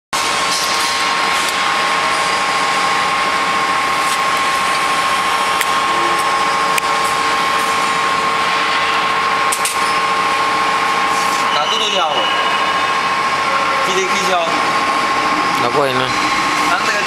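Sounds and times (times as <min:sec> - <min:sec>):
constant high whine: 0:00.2 - 0:17.0
factory machinery drone: 0:00.2 - 0:17.0.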